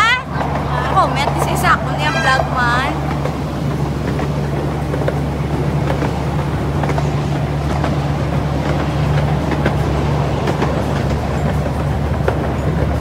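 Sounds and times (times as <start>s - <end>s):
small train low hum: 0.0s - 13.0s
wheels clicking on rails: 0.0s - 13.0s.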